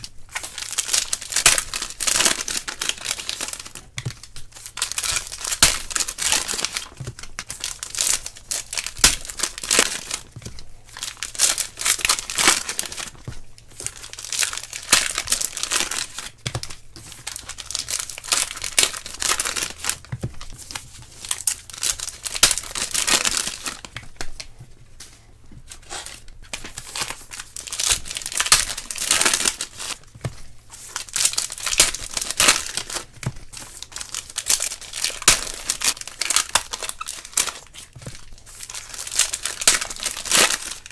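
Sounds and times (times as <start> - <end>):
wrappers tearing and crinkling: 0.0 - 24.6, 25.6 - 40.9.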